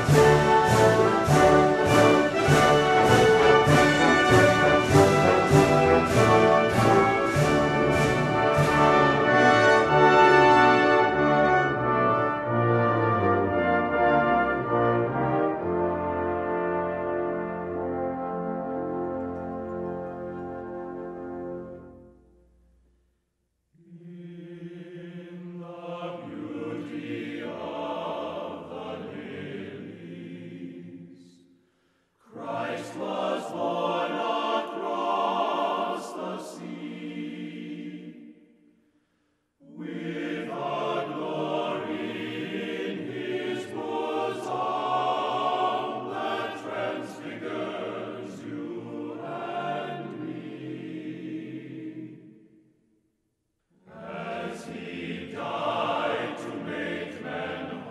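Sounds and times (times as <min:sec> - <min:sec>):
choir singing chant-like music: 0:00.0 - 0:22.1, 0:23.8 - 0:31.6, 0:32.2 - 0:39.0, 0:39.6 - 0:52.8, 0:53.7 - 0:57.9.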